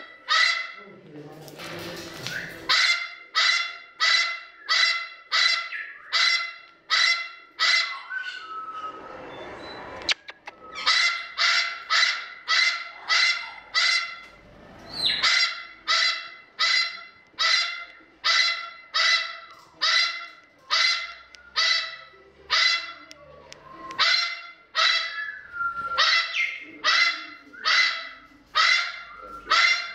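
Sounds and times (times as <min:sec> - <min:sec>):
parrot honking calls: 0:00.0 - 0:00.8, 0:02.6 - 0:08.5, 0:10.8 - 0:23.1, 0:24.0 - 0:25.4, 0:26.0 - 0:29.9.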